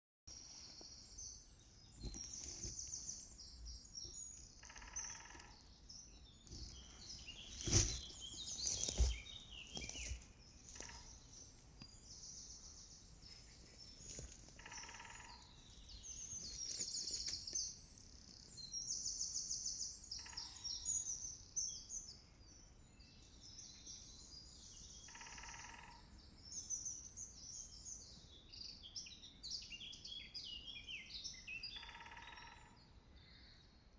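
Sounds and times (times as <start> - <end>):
songbirds trilling and warbling: 0.3 - 33.9.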